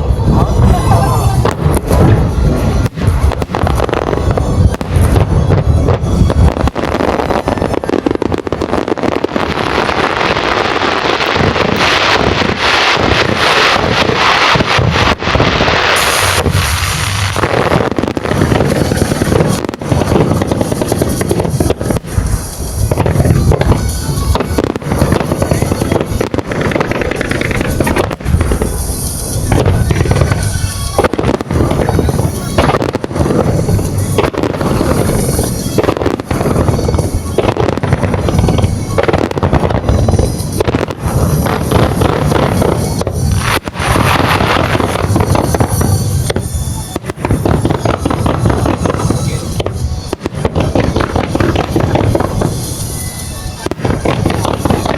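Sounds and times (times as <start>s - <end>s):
fireworks booming: 0.0s - 54.9s
fireworks crackling: 0.0s - 54.9s
music playing: 0.0s - 54.9s.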